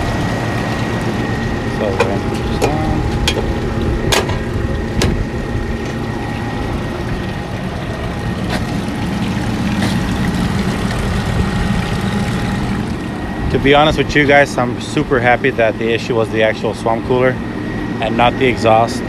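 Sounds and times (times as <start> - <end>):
cooler fan humming: 0.0 - 19.0
faint motor whine: 0.0 - 19.0.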